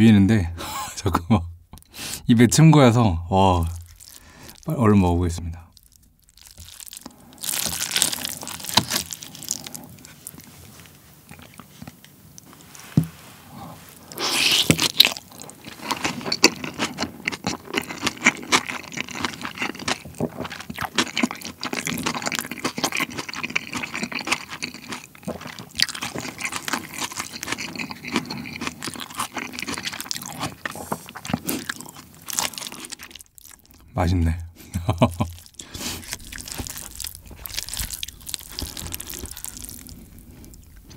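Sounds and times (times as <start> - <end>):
wet crunchy chewing: 3.4 - 4.8, 5.6 - 12.8, 13.9 - 33.9, 34.7 - 40.9.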